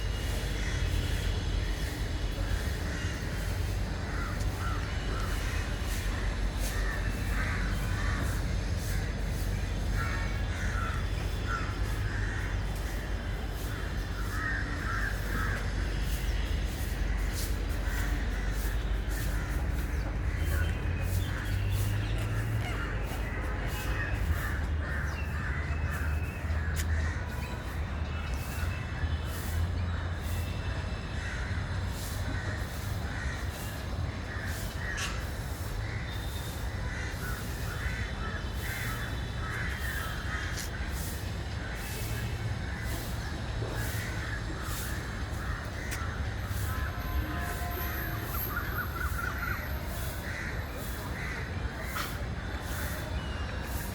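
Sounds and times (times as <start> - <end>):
birds cawing: 0.0 - 53.8.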